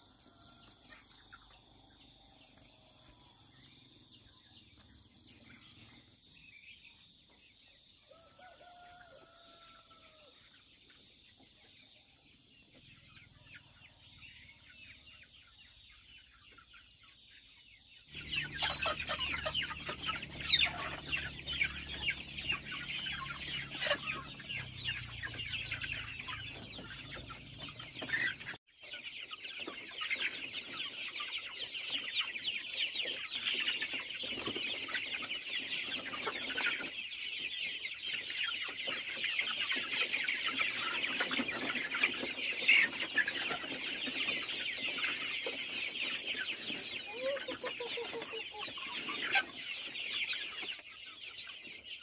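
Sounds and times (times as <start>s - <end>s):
young chickens cheeping and clucking: 0.0s - 52.0s.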